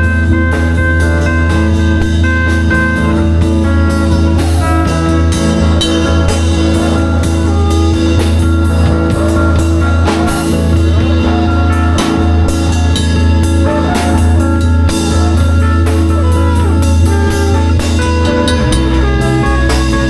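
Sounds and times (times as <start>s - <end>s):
drum kit playing: 0.0s - 20.0s
electric guitar notes: 0.0s - 20.0s
heavy bass line: 0.0s - 20.0s.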